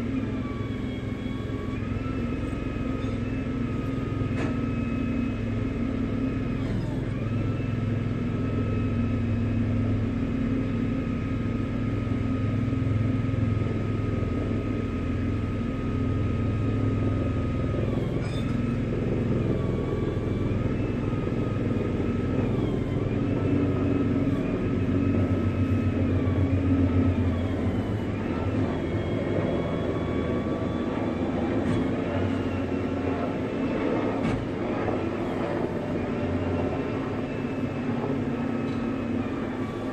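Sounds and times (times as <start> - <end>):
high hydraulic whine: 0.0 - 39.9
truck engine rumbling: 0.0 - 39.9.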